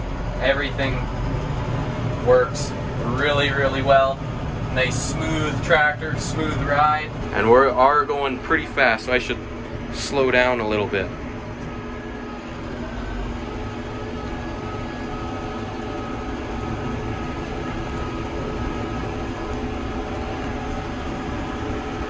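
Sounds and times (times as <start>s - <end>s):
tractor diesel engine rumbling: 0.0s - 22.0s.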